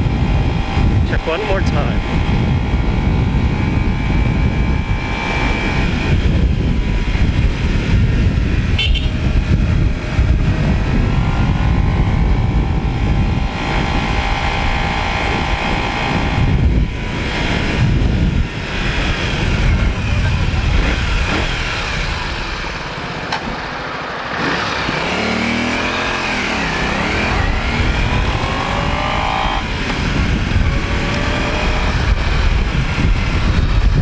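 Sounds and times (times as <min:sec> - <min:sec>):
motorcycle engine hum: 0:00.0 - 0:34.0
wind rumble: 0:00.0 - 0:34.0.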